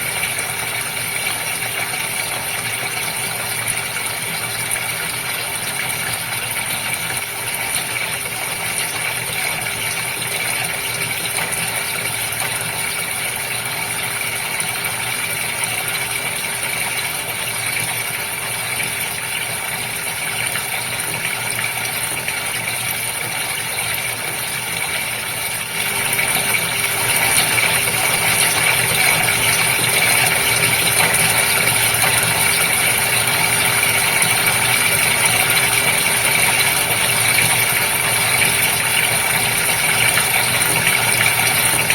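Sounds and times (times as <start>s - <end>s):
aquarium pump humming: 0.0s - 41.9s
bubbling water: 0.0s - 41.9s.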